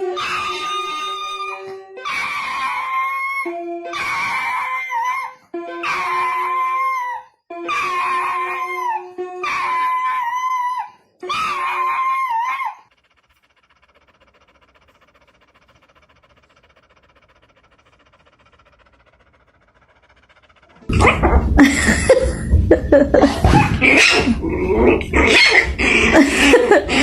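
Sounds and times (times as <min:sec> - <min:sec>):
dog screaming cries: 0:00.0 - 0:19.4, 0:23.5 - 0:24.4, 0:25.2 - 0:27.0.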